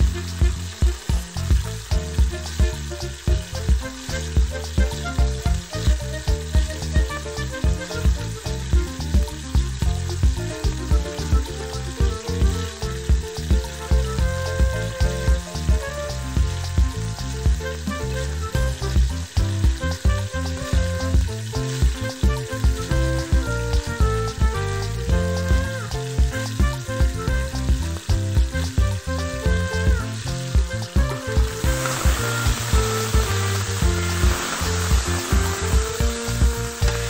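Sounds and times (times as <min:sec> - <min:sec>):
background music with steady beat: 0:00.0 - 0:37.0
chicken frying in hot oil: 0:00.0 - 0:37.0.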